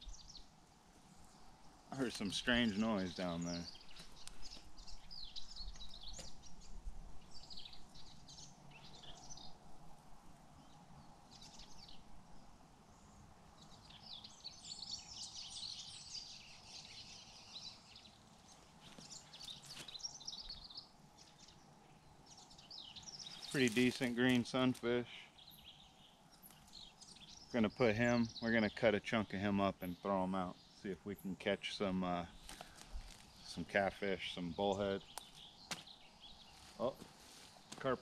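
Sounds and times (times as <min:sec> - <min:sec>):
birds chirping and trilling: 0:00.0 - 0:38.0
faint outdoor background noise: 0:00.0 - 0:38.0.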